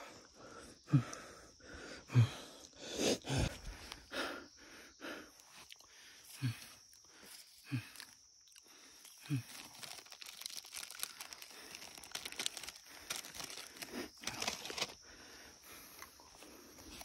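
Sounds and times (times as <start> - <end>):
man breathing hard: 0.0 - 9.4, 11.0 - 17.0.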